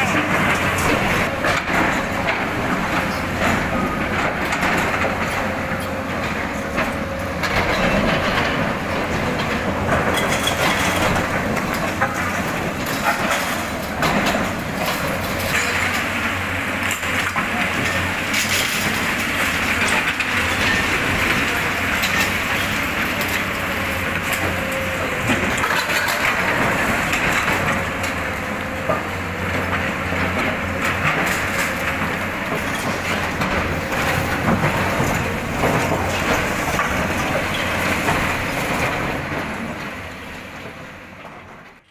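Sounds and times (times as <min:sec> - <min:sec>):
masonry crunching and rubble falling: 0:00.0 - 0:40.2
excavator diesel engines running: 0:00.0 - 0:41.9.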